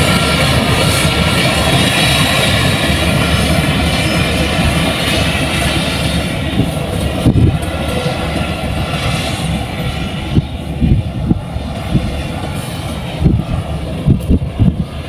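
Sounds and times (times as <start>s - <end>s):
diesel engine with high whine: 0.0s - 15.0s.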